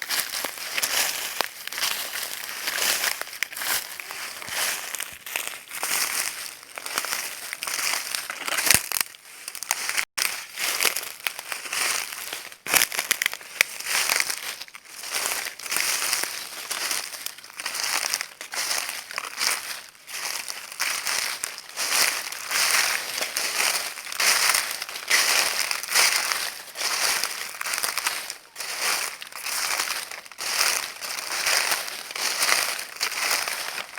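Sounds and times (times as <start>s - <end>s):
footsteps crunching dry leaves: 0.0s - 33.9s.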